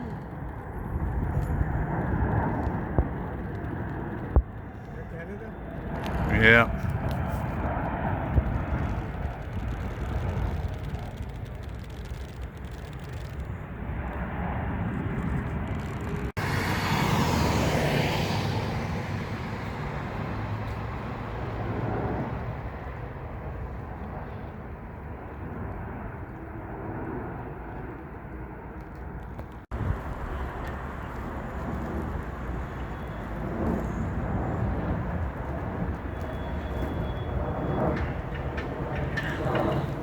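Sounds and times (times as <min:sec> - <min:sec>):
jet airliner engines rushing: 0:00.0 - 0:40.0.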